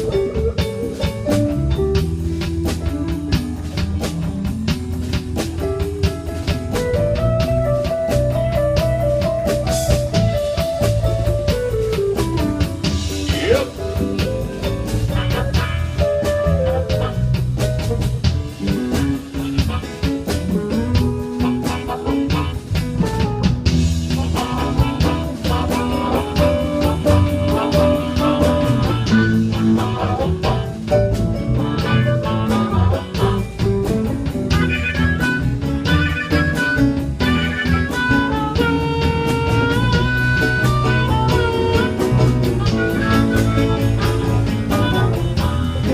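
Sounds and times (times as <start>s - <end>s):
bass: 0.0s - 45.9s
drum kit: 0.0s - 45.9s
electric guitar lines: 0.0s - 45.9s.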